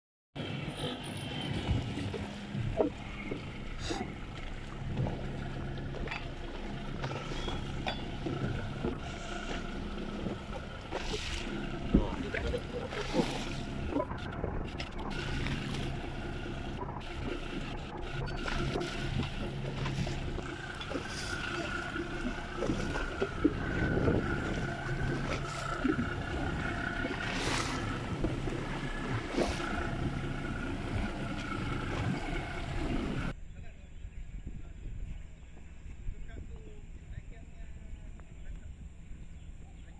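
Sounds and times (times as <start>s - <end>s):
boat engine droning: 0.4s - 33.4s
wind on microphone: 0.4s - 39.9s
water splashing against hull: 0.5s - 33.3s.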